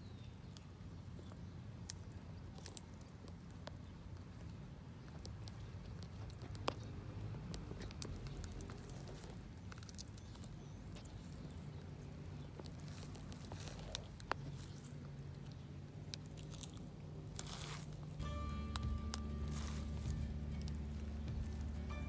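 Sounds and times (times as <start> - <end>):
low steady rumble: 0.0 - 22.0
tortoise crunching lettuce: 0.0 - 22.0.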